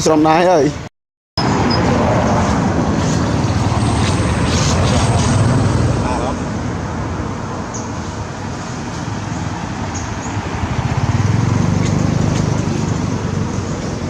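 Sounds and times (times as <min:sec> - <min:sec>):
vehicle engine rumble: 0:01.4 - 0:14.0.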